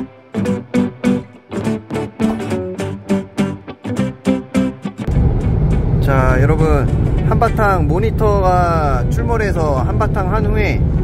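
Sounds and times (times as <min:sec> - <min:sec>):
strummed guitar: 0:00.0 - 0:10.1.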